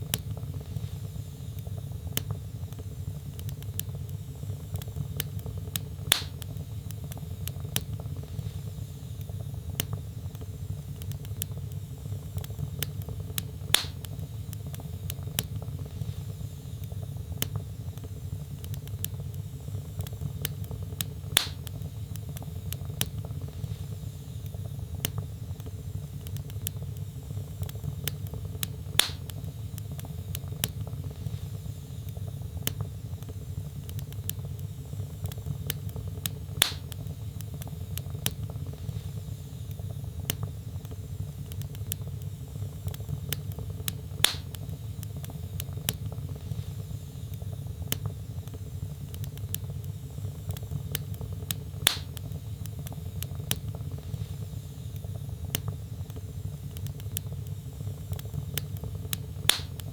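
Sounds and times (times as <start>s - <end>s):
fire popping: 0.0s - 59.9s
log fire crackling: 0.0s - 59.9s.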